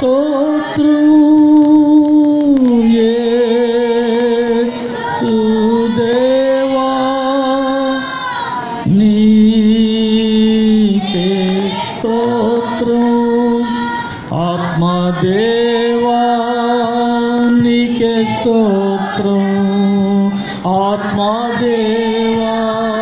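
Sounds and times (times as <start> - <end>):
man singing into microphone: 0.0 - 23.0.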